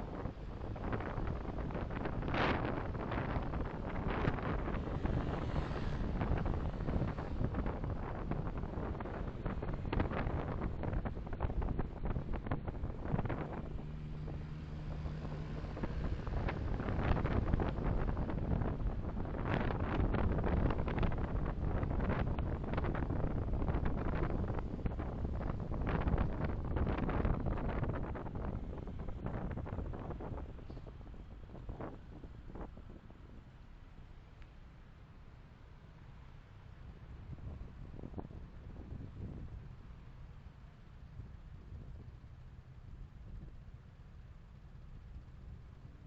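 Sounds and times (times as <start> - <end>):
car road and wind noise: 0.0 - 46.0.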